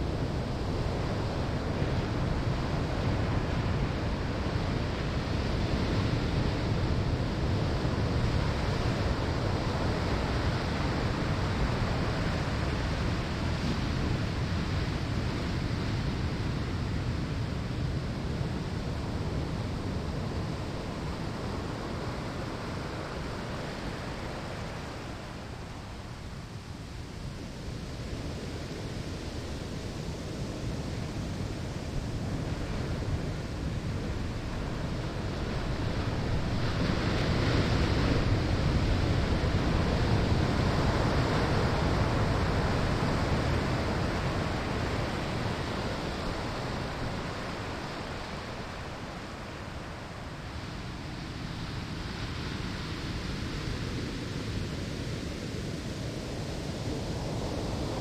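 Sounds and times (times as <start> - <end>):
ocean waves on sandy shore: 0.0 - 58.0.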